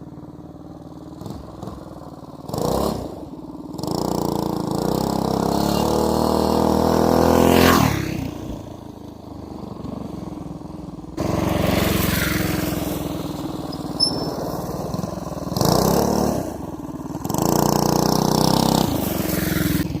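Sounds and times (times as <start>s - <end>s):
small engine revving: 0.8s - 20.0s.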